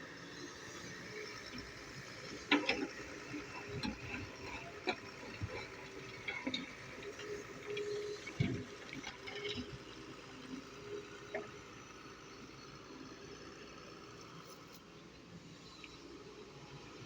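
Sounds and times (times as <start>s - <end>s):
excavator engine drone: 0.0s - 17.0s.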